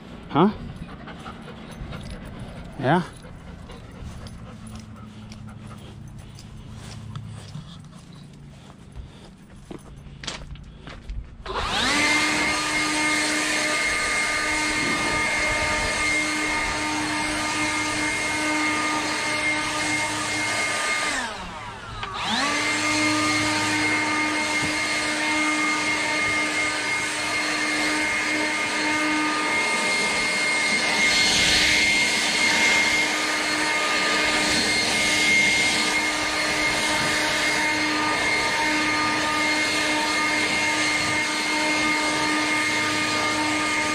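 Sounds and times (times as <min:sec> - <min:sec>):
leaf blower whining: 0:00.0 - 0:43.9.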